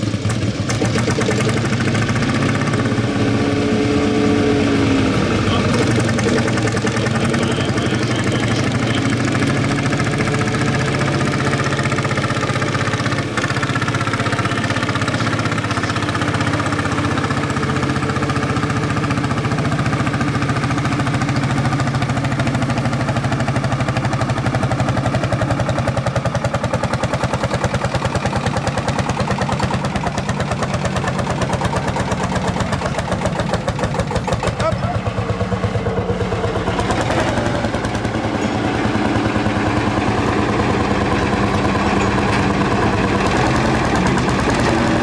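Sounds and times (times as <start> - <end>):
tractor engine knocking under load: 0.0 - 3.2, 5.3 - 45.0.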